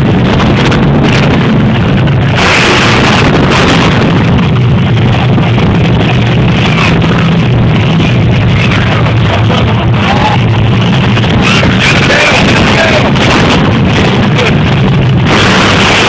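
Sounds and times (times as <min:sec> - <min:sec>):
loud truck engine drone: 0:00.0 - 0:16.0.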